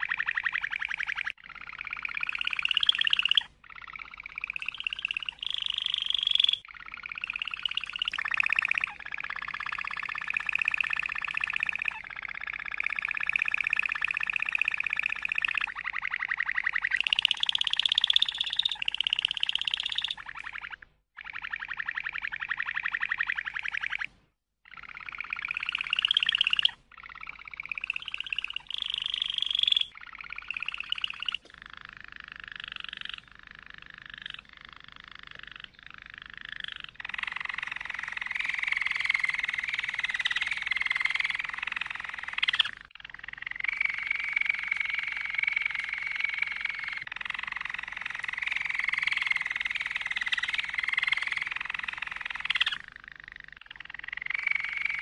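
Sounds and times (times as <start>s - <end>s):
canary singing: 0.0s - 24.1s, 24.7s - 52.8s.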